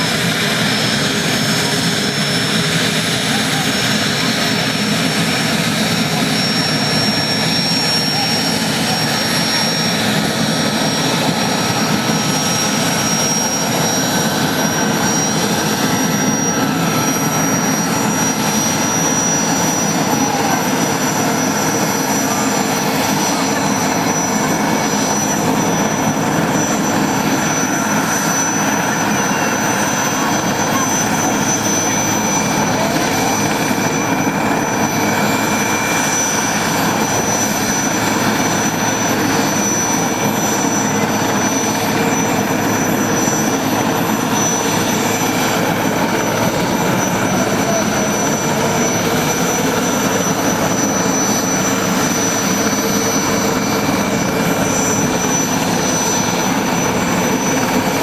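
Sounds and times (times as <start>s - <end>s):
helicopter turbine engines running: 0.0s - 58.0s.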